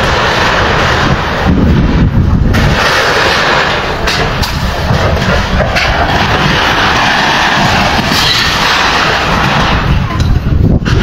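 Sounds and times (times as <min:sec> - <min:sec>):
demolition machinery rumble: 0:00.0 - 0:11.0.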